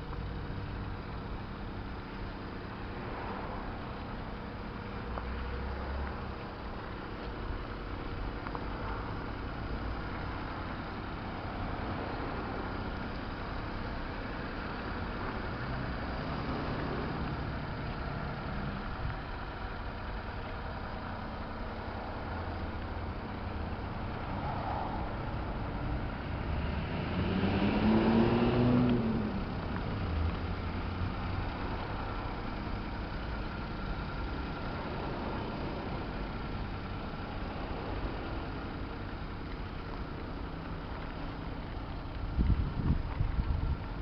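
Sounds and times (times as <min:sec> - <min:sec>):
small engine idling and revving: 0:00.0 - 0:44.0.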